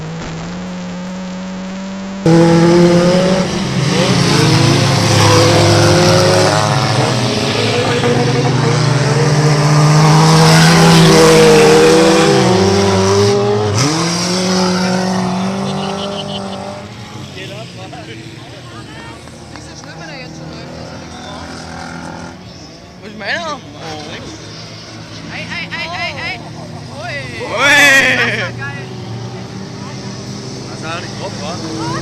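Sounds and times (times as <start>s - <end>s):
stock car engines revving: 0.0s - 32.0s.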